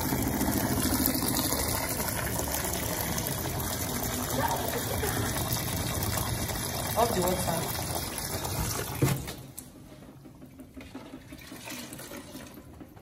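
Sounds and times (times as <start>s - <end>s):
water rushing in washing machine: 0.0s - 13.0s.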